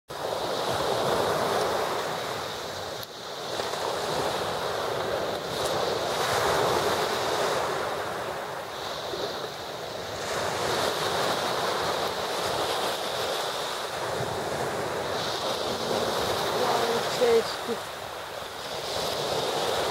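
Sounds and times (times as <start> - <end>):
small sea waves washing: 0.1 - 19.9.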